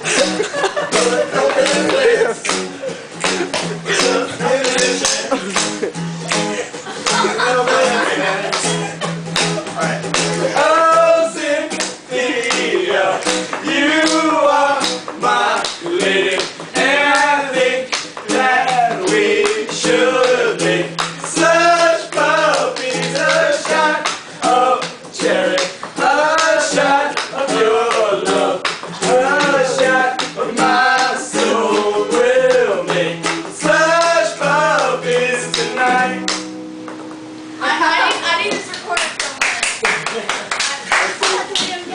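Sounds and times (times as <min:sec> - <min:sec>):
instrumental backing with steady beat: 0:00.0 - 0:39.0.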